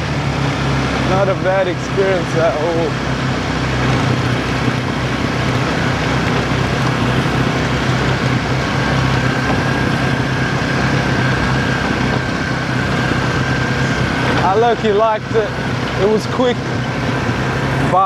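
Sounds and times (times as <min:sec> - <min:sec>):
road and wind noise: 0:00.0 - 0:18.0
vehicle engine running: 0:00.0 - 0:18.0.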